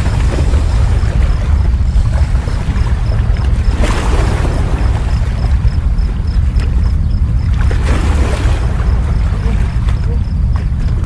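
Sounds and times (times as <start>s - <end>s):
sea washing against rocks: 0.0s - 11.0s
wind buffeting microphone: 0.0s - 11.0s.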